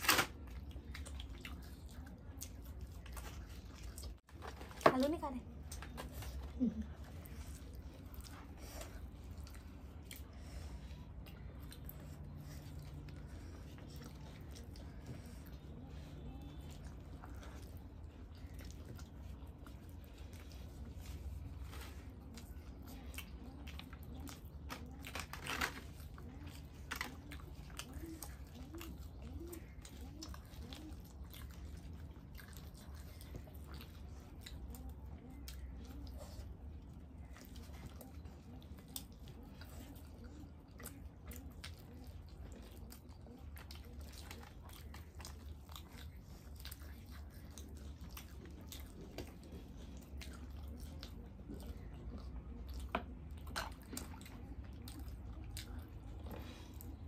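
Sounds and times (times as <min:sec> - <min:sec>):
people chewing food: 0:00.0 - 0:57.0.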